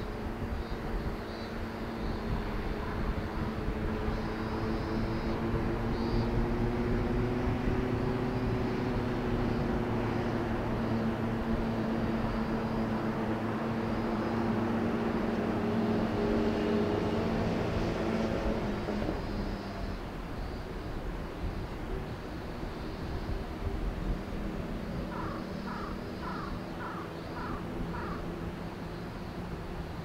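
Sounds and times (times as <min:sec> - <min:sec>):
distant diesel locomotive drone: 0:00.0 - 0:30.0.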